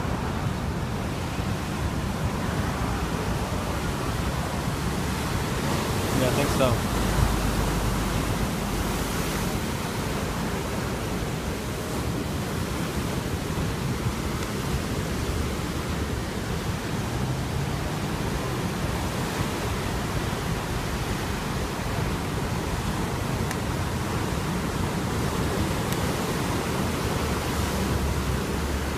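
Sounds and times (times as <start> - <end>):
surf breaking on beach: 0.0 - 28.9.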